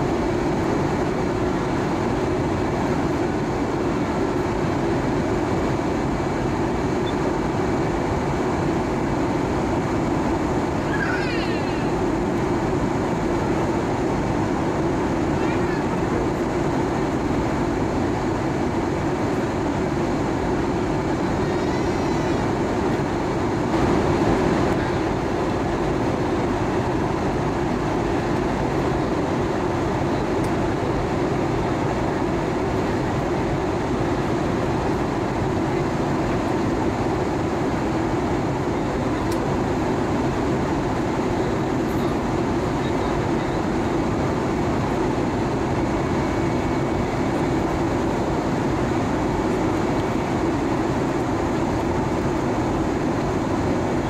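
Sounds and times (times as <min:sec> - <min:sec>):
turbofan engine running: 0:00.0 - 0:54.0.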